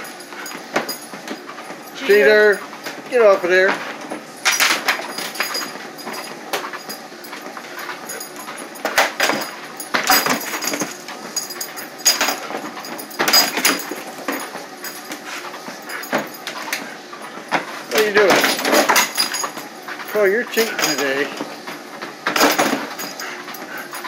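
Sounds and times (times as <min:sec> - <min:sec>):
treadmill running hiss: 0:00.0 - 0:24.0.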